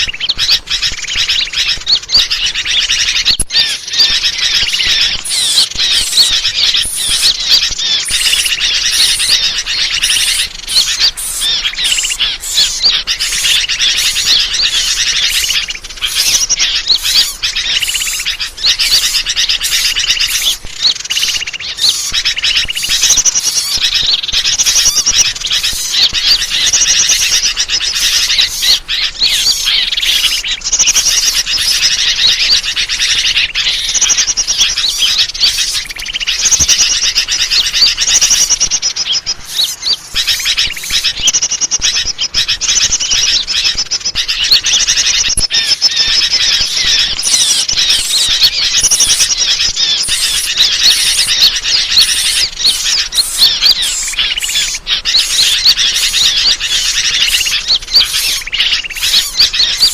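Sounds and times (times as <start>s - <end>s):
songbirds chattering: 0.0s - 59.9s.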